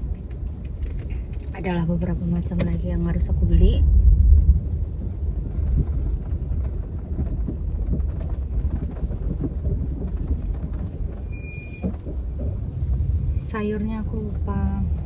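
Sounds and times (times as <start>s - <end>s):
vehicle rumbling: 0.0s - 15.0s.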